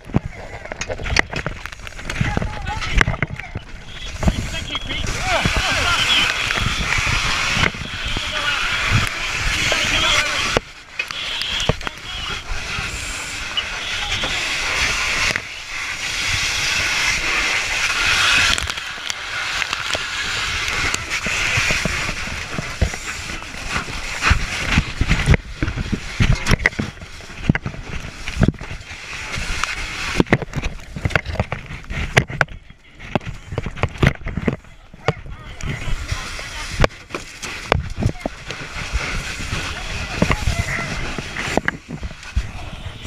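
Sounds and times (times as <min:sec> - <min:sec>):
gear and hose knocking and scraping: 0:00.0 - 0:43.0
steady rushing hiss: 0:00.2 - 0:32.2, 0:35.1 - 0:43.0.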